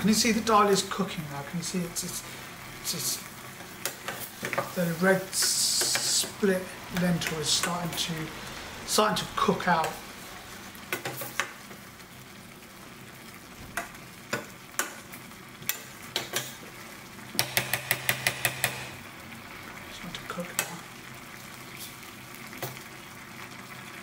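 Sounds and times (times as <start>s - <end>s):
simmering pot hiss: 0.0s - 24.0s.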